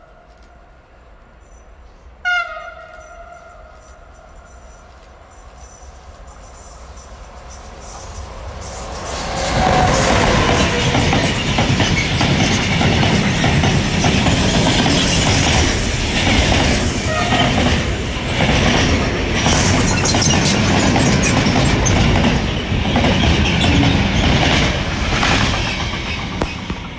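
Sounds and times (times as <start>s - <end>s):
freight train rumbling past: 0.8s - 26.9s.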